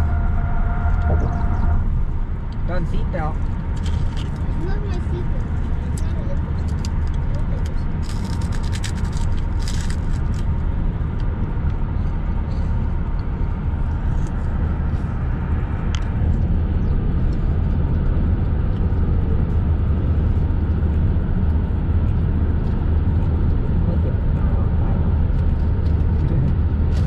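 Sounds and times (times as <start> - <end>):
car interior road and engine noise: 0.0 - 27.0.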